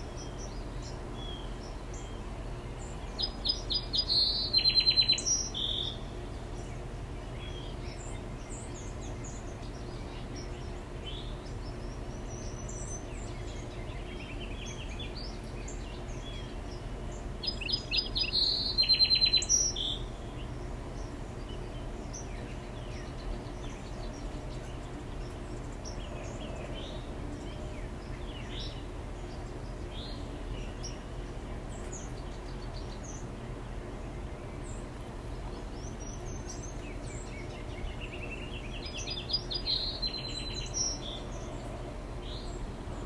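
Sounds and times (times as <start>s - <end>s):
faint bird chirps: 0.0s - 31.1s, 34.5s - 42.7s
low background hum: 0.0s - 43.0s
songbird singing with buzzy trill: 0.0s - 43.0s.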